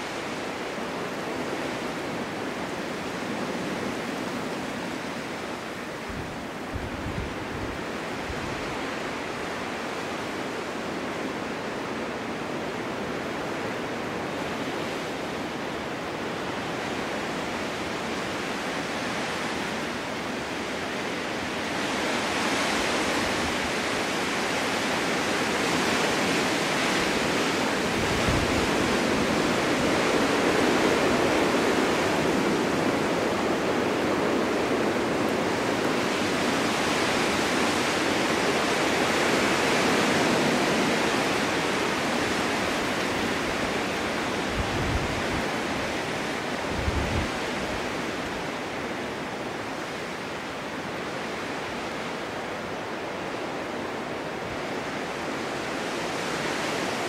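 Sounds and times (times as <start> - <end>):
snowstorm wind blowing: 0.0 - 57.0.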